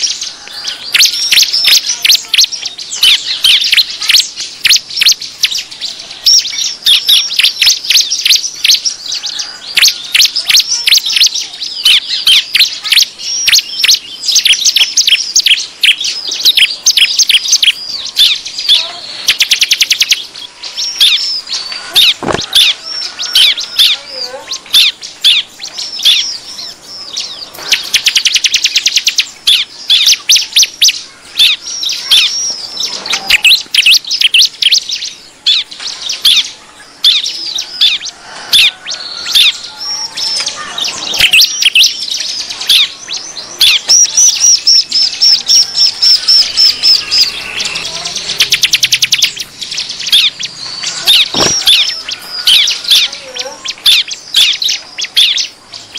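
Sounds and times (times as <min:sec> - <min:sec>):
birds chirping in chorus: 0:00.0 - 0:55.9
fast rattling bird trills: 0:00.0 - 0:55.9.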